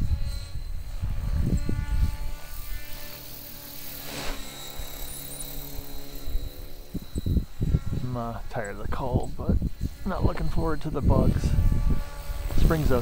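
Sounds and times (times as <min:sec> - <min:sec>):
wind rumble on microphone: 0:00.0 - 0:03.2, 0:05.6 - 0:13.0
rc helicopter motor whine: 0:00.0 - 0:13.0.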